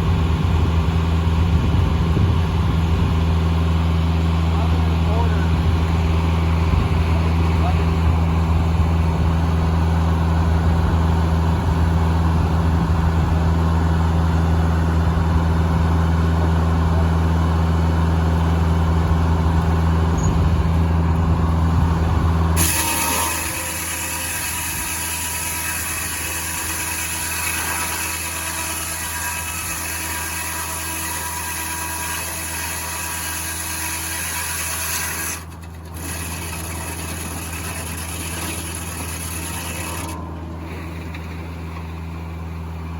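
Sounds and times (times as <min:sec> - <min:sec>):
sawmill engine humming: 0:00.0 - 0:42.9.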